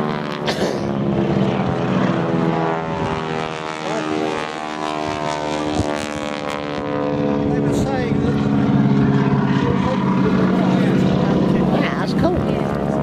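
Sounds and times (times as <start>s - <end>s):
biplane engine flying over: 0.0s - 13.0s.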